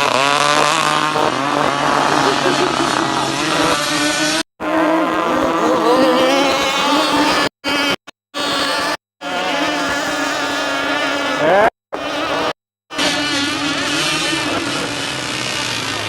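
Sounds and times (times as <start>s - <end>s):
rc powerboat engines buzzing: 0.0s - 16.0s.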